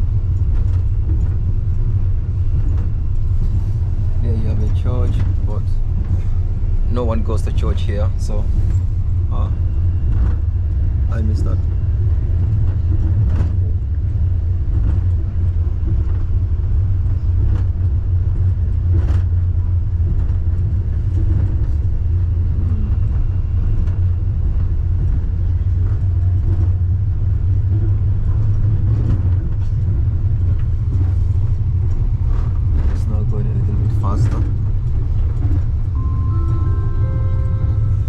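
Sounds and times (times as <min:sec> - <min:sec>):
suspension railway car rumble: 0:00.0 - 0:38.0.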